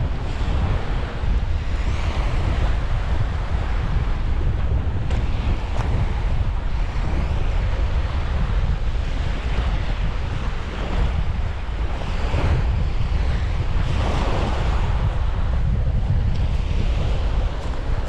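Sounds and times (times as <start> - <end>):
sea waves washing ashore: 0.0 - 18.0
wind buffeting microphone: 0.0 - 18.0.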